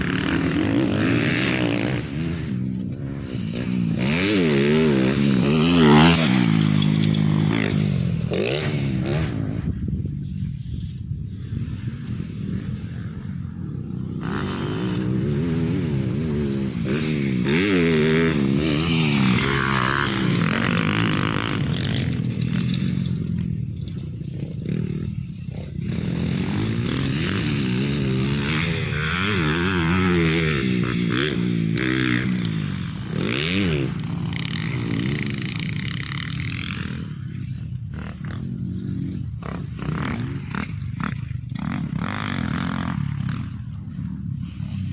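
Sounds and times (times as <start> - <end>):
motorcycle engine revving: 0.0 - 44.9
rattle and scraping: 2.4 - 9.2, 14.4 - 44.9.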